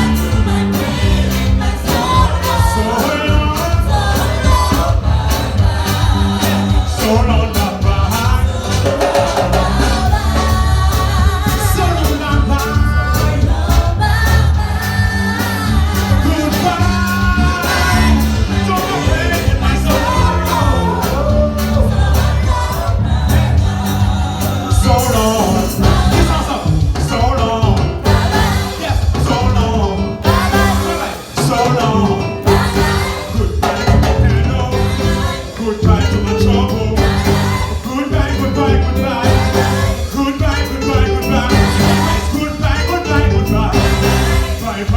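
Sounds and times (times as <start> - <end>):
gospel singing with band: 0.0 - 44.9.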